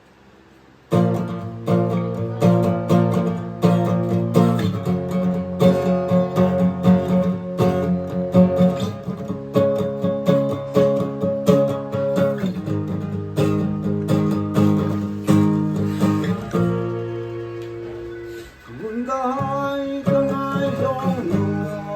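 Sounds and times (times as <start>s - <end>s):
acoustic guitar strumming chords: 0.8s - 21.9s.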